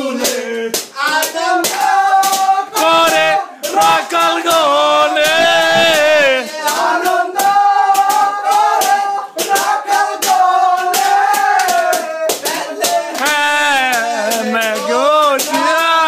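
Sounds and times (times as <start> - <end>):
people singing devotional song: 0.0 - 16.0
rhythmic hand-clapping: 0.0 - 16.0.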